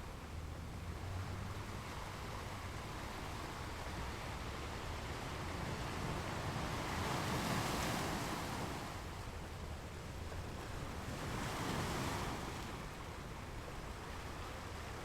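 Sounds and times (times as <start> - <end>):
ocean waves washing onto beach: 0.4 - 15.0.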